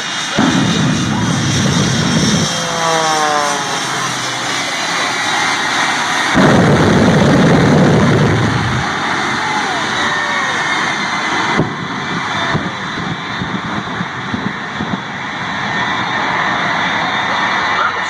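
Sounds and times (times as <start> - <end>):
falling whine: 0.0 - 18.0
jet engine afterburner blasts: 0.0 - 18.0.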